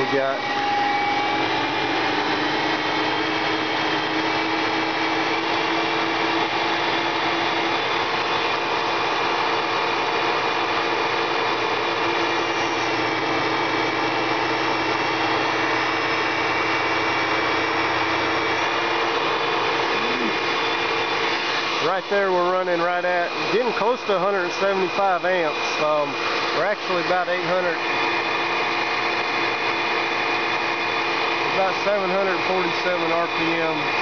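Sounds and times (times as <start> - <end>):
machine noise with whining tones: 0.0 - 34.0.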